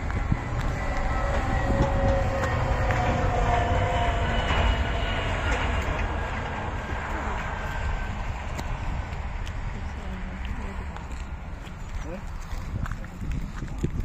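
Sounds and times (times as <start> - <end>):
tractor engine rumbling past: 0.0 - 13.4.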